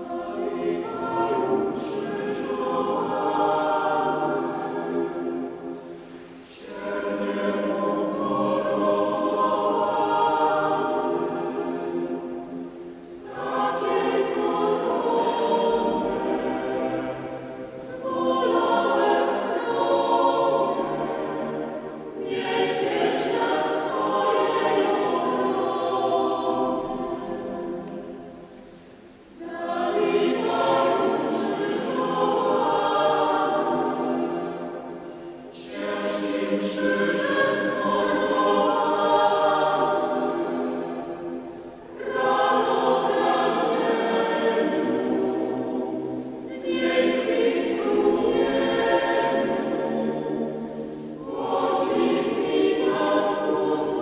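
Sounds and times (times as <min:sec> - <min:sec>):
mixed choir singing a hymn: 0:00.0 - 0:54.0.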